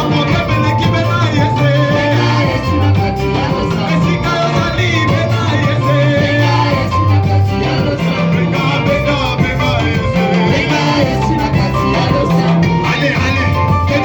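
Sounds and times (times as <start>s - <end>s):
bass line: 0.0s - 14.0s
live praise music: 0.0s - 14.0s
person singing: 0.0s - 14.0s.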